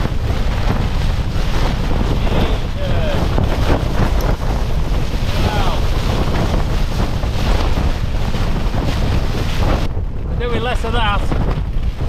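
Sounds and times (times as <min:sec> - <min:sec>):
wind battering a tent: 0:00.0 - 0:12.0
wind rumble on microphone: 0:00.0 - 0:12.0.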